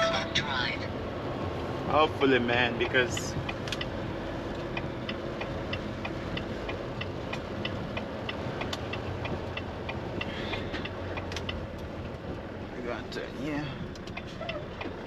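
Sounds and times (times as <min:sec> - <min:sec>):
truck engine humming: 0:00.0 - 0:15.0
turn signal ticking: 0:00.9 - 0:15.0.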